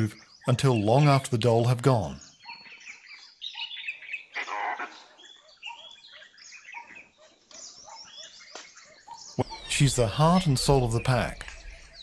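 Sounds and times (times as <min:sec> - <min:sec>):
chirping and whistling animal calls: 0:00.0 - 0:12.0.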